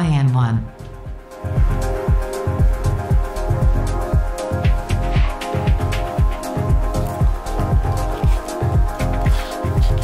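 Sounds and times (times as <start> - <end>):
kick drum beat: 0.0 - 10.0
held synth chords: 0.7 - 10.0.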